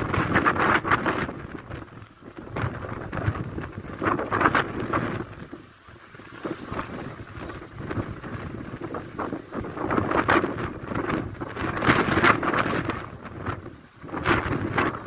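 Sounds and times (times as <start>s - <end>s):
strong wind gusting through trees: 0.0s - 15.0s
wind buffeting microphone: 0.0s - 15.0s.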